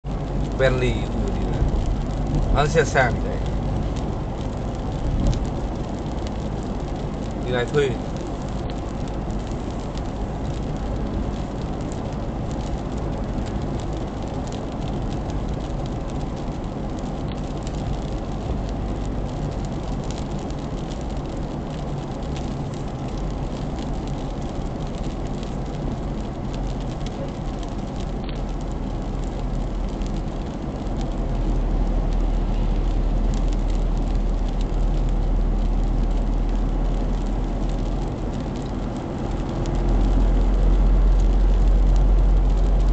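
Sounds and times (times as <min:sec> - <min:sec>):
car engine hum: 0:00.0 - 0:42.9
road and tyre noise: 0:00.0 - 0:42.9.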